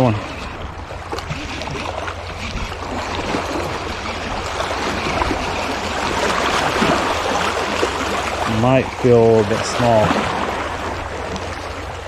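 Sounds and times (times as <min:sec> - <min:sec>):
water lapping against rocks: 0:00.0 - 0:12.0.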